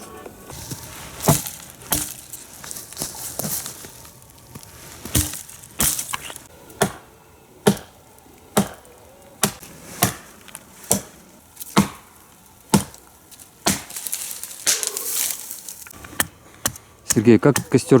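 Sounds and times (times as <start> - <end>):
axe chopping wood: 0.7 - 17.8.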